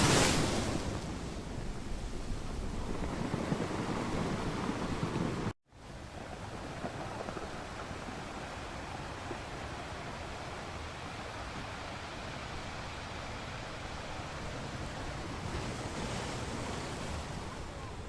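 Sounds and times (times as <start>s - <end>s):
surf washing on shore: 0.0s - 5.5s, 6.4s - 18.0s.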